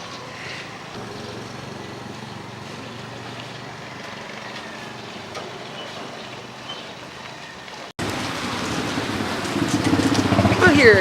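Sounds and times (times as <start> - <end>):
engine running: 0.0 - 6.6, 8.0 - 11.0.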